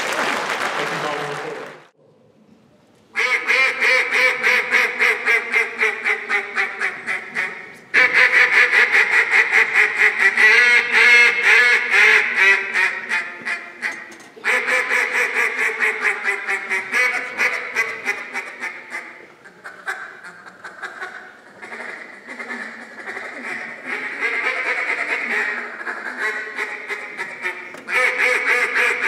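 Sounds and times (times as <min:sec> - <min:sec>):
duck call quacks: 0:03.2 - 0:29.0.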